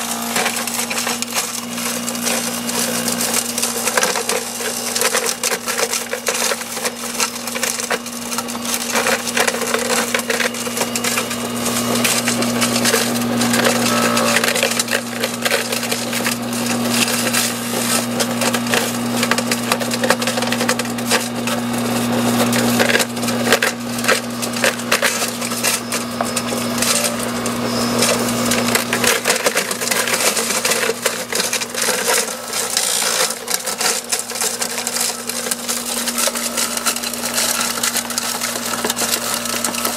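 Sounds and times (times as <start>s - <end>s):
electric motor hum: 0.0s - 39.9s
wood crackling and snapping: 0.2s - 39.9s.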